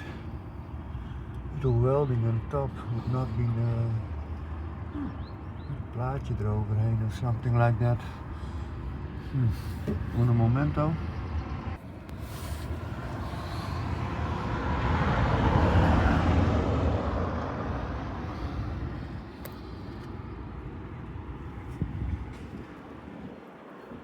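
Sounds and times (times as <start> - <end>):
road vehicle passing: 0.0 - 24.0.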